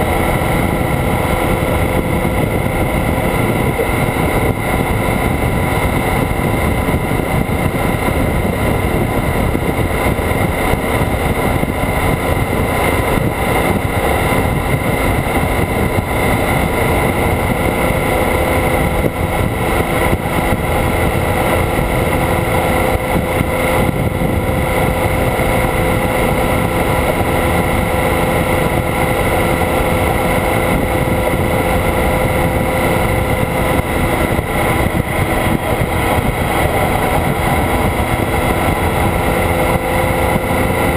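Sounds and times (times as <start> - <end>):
motorcycle engine drone: 0.0 - 40.9
wind and road rush: 0.0 - 40.9.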